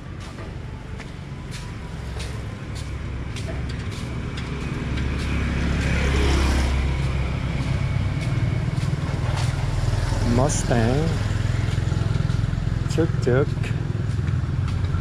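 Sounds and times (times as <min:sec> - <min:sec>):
vehicle passing close: 0:00.0 - 0:15.0.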